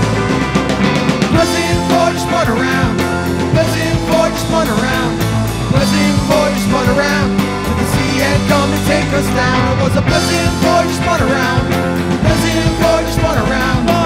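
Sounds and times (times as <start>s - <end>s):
drum kit beat: 0.0s - 14.0s
electric guitars: 0.0s - 14.0s.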